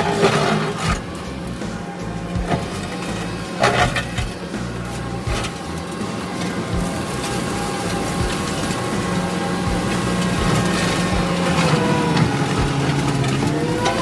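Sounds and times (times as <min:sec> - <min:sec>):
diesel engine working: 0:00.0 - 0:14.0.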